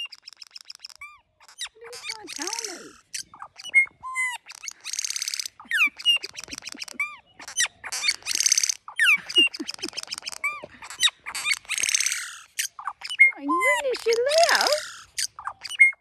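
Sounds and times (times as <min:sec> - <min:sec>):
bird singing whistles and rasps: 0:00.0 - 0:16.0.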